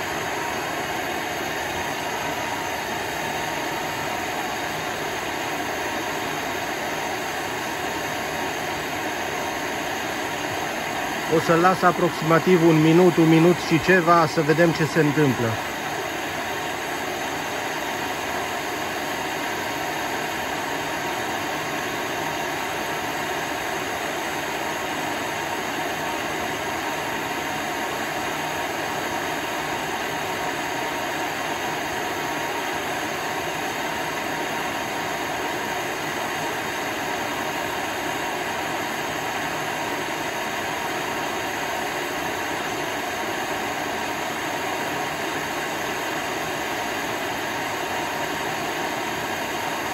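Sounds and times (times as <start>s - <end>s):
gas torch flame hissing: 0.0s - 49.9s.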